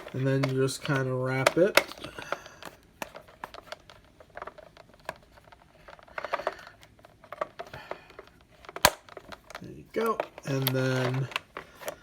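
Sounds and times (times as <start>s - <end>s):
plastic strap clicking: 0.0s - 12.0s.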